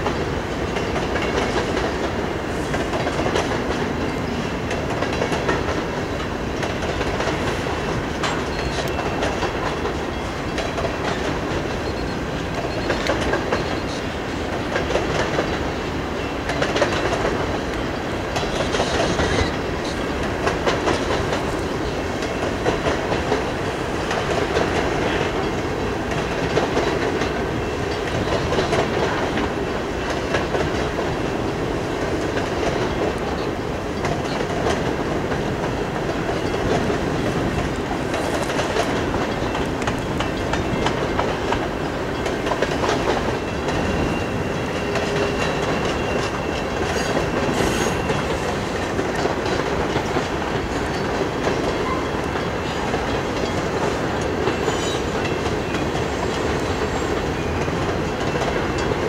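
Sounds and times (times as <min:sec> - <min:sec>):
freight train rolling rumble: 0:00.0 - 0:59.0
train wheels clicking over rail joints: 0:00.0 - 0:59.0.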